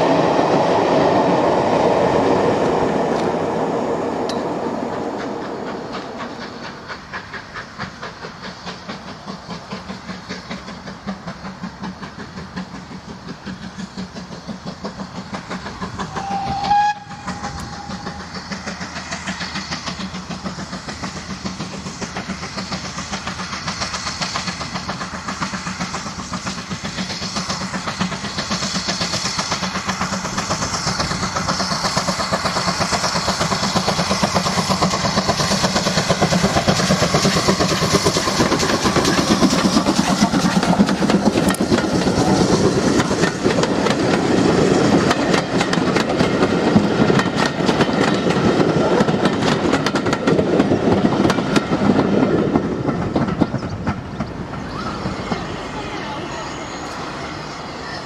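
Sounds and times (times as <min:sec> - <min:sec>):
steam locomotive exhaust chuffing: 0:00.0 - 0:58.0
train wheels clattering over track: 0:00.0 - 0:58.0.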